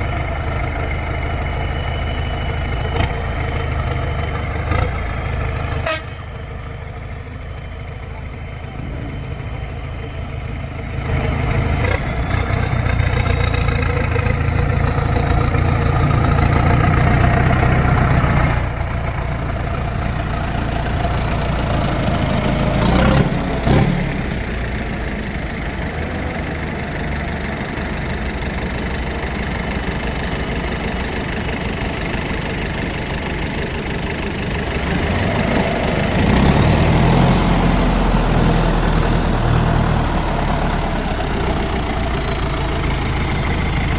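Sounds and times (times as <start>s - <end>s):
diesel engines under load: 0.0s - 43.9s.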